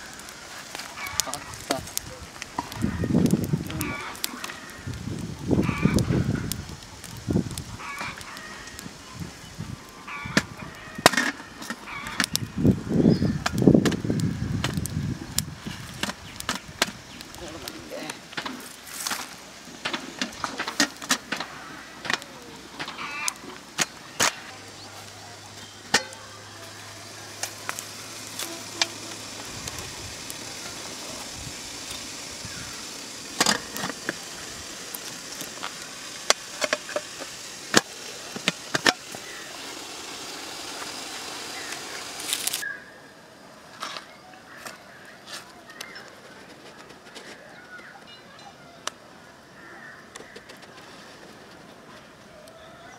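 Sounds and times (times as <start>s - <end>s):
steady hiss: 0.0s - 52.9s
wood fire crackling: 0.0s - 52.9s.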